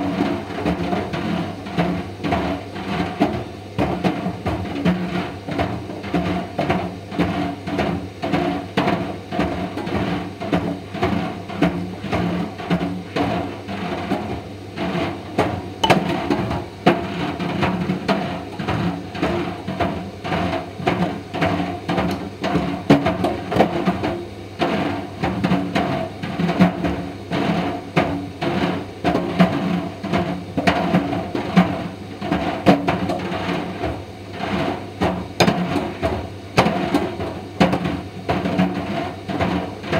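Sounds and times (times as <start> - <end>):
dryer balls knocking in drum: 0.0 - 39.9.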